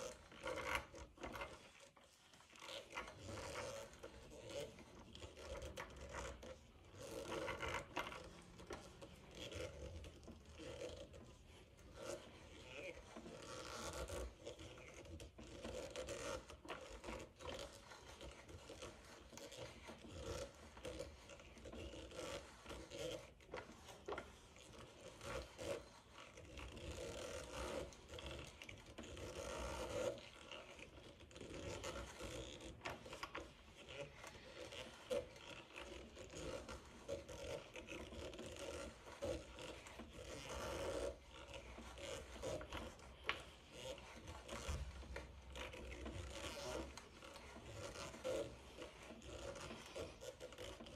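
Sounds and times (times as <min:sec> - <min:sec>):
auger bit scraping through wood: 0:00.0 - 0:50.9.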